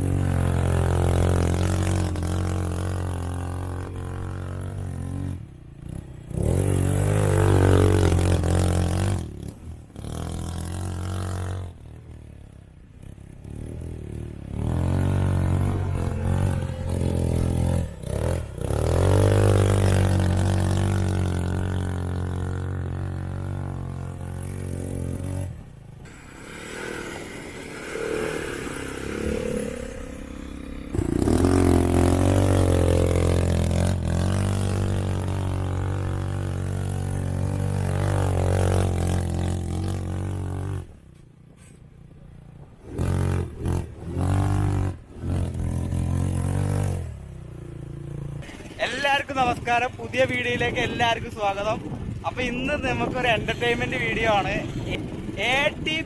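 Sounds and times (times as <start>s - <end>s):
quad bike engines revving: 0.0s - 56.0s.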